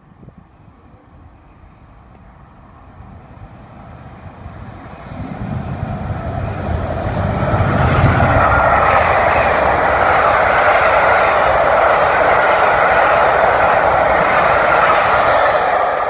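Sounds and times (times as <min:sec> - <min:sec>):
diesel locomotive engine rumbling: 0:00.0 - 0:16.0
rail noise: 0:00.0 - 0:16.0.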